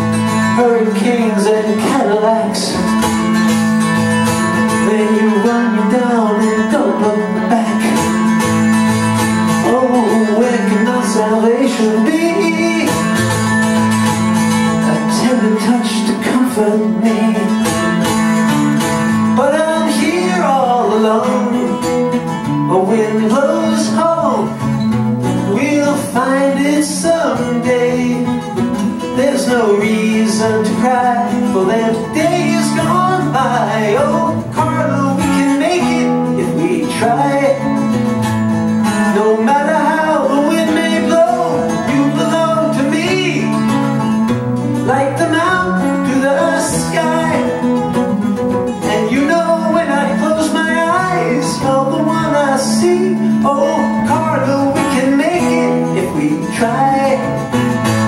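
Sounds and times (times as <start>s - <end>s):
man singing: 0.0s - 58.0s
strummed mandolin: 0.0s - 58.0s.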